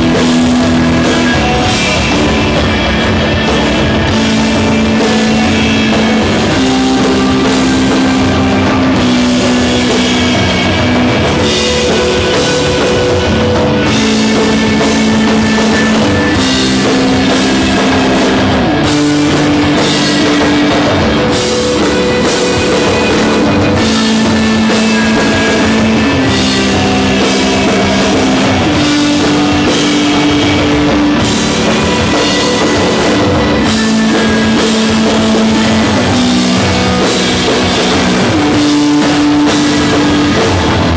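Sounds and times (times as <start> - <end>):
drum kit: 0.0 - 40.9
low guitar riff: 0.0 - 40.9
rock band playing: 0.0 - 40.9.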